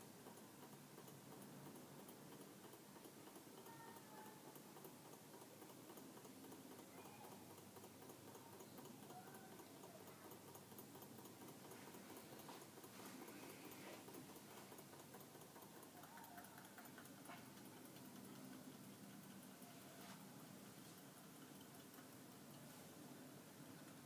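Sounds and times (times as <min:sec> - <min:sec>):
engine mechanism rapid ticking: 0:00.0 - 0:19.7, 0:20.5 - 0:22.6.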